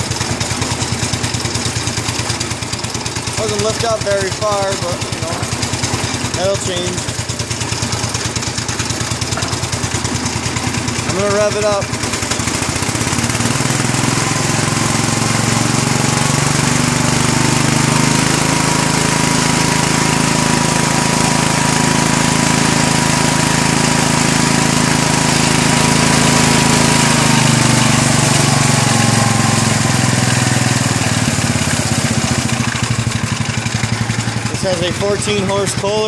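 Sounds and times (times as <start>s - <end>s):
small engine revving: 0.0s - 36.0s
thin engine whine: 0.0s - 36.0s.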